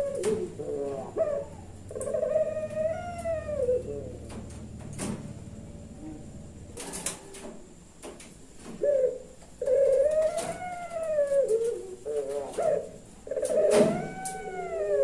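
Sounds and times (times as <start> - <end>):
dove cooing: 0.0 - 7.5, 8.6 - 15.0.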